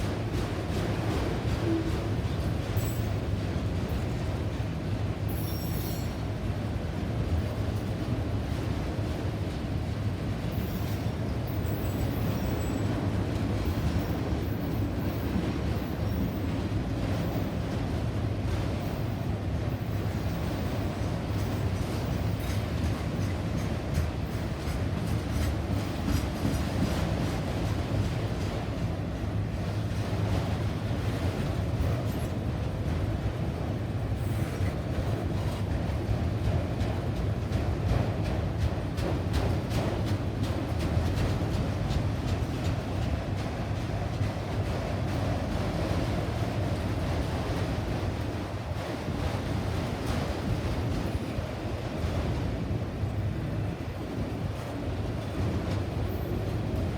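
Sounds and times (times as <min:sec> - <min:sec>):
train cars rumbling on rails: 0:00.0 - 0:56.9.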